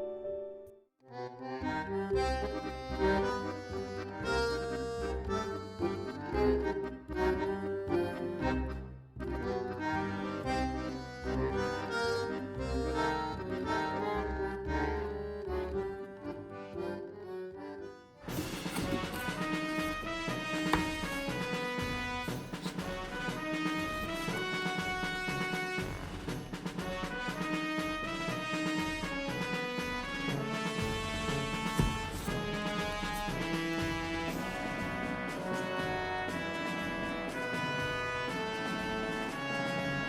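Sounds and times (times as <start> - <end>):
instrumental background music: 0.0 - 40.0.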